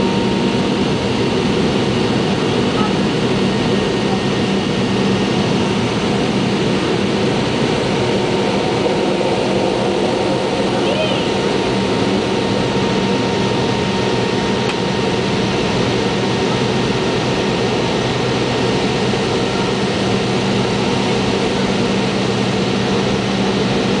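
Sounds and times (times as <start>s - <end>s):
airplane cabin engine noise: 0.0s - 24.0s
steady low hum: 0.0s - 24.0s.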